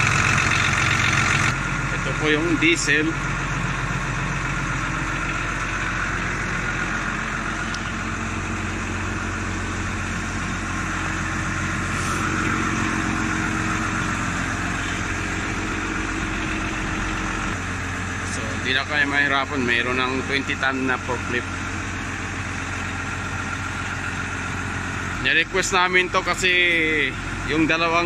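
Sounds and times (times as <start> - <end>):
forklift diesel engine idling: 0.0 - 28.0.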